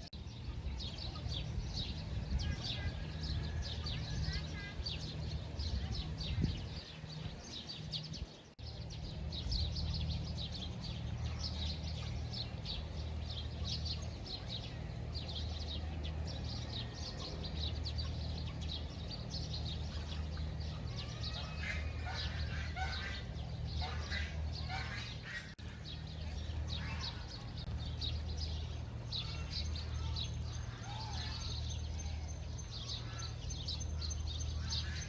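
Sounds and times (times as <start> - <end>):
small birds chirping: 0.0 - 35.0
steady low hum: 0.0 - 35.0.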